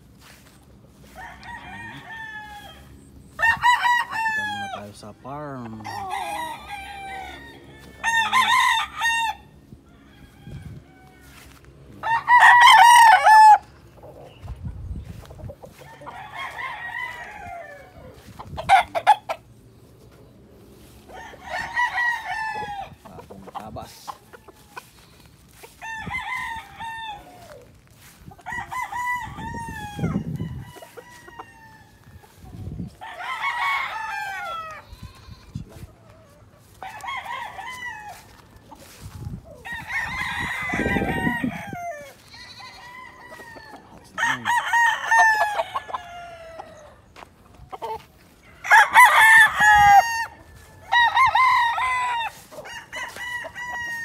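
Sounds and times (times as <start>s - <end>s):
roosters crowing: 0.0s - 54.0s.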